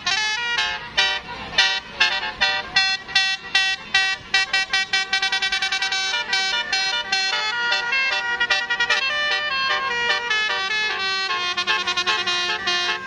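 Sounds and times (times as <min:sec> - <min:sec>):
bus horn playing a tune: 0:00.0 - 0:13.0.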